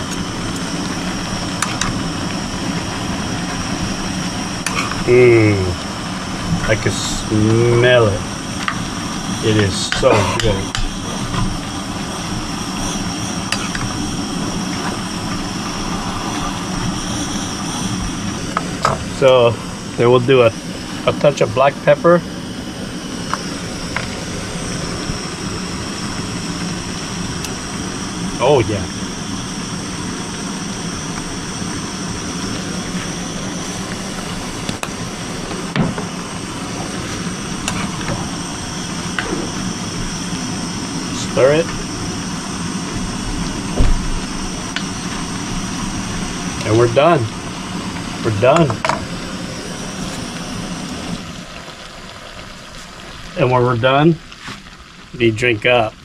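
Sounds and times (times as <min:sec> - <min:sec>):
stir fry sizzling in a pan: 0:00.0 - 0:20.0, 0:22.4 - 0:56.0.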